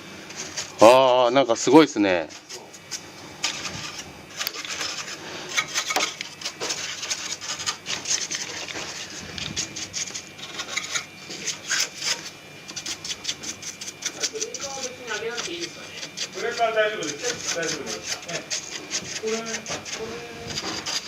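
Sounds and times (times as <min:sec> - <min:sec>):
plastic casing rubbing and scraping: 0:02.2 - 0:21.0.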